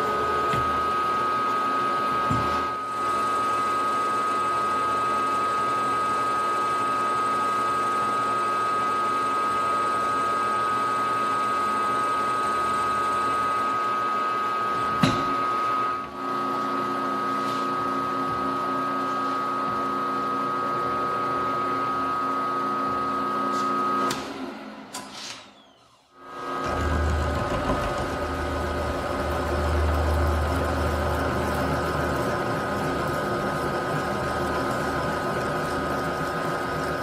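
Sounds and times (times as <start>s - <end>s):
milling machine spindle whine: 0.0s - 24.5s, 25.6s - 37.0s.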